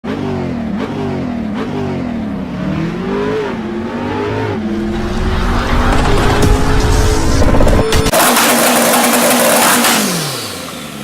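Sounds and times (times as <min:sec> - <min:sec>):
motorbike engine revving: 0:00.1 - 0:11.0.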